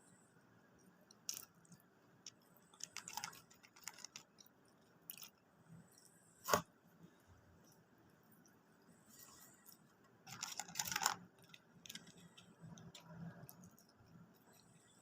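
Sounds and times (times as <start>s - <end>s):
chewing and crunching food: 0.8s - 6.1s, 7.8s - 15.0s.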